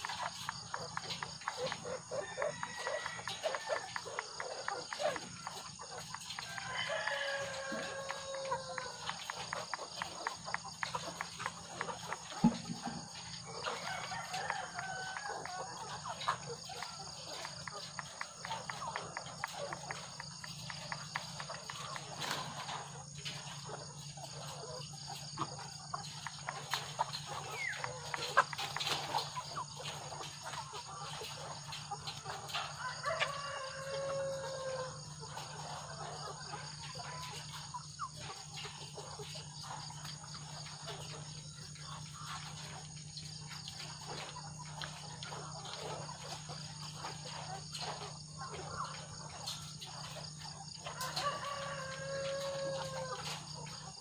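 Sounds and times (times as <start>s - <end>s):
hens clucking and calling: 0.0s - 54.0s
high insect drone: 0.0s - 54.0s.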